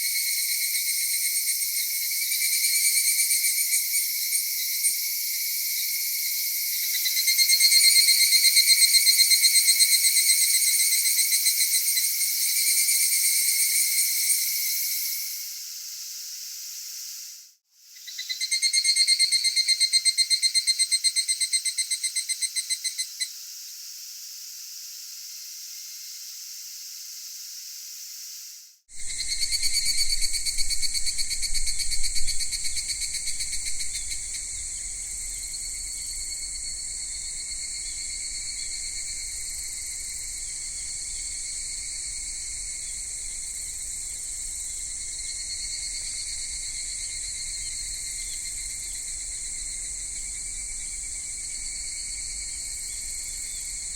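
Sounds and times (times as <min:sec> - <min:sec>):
cicadas singing: 0:00.0 - 0:53.9.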